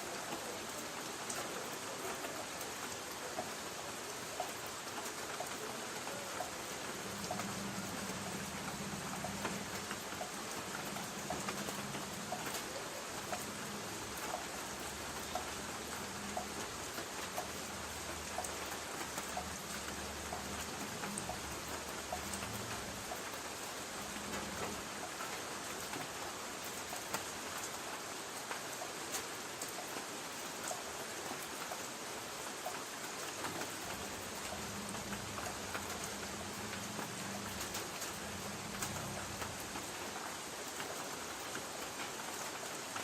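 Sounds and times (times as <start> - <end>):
light rain on a tin roof: 0.0 - 43.0.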